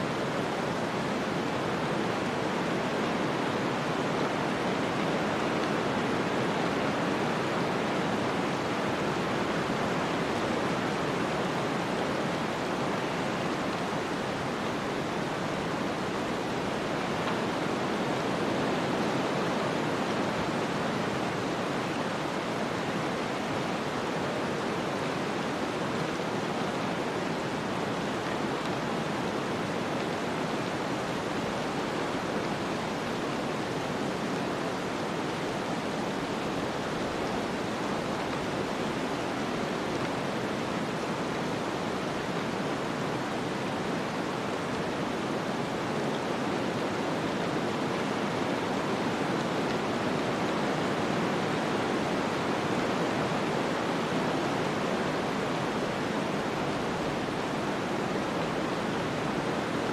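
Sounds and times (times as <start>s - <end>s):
hiss of wind-driven snow: 0.0s - 59.9s.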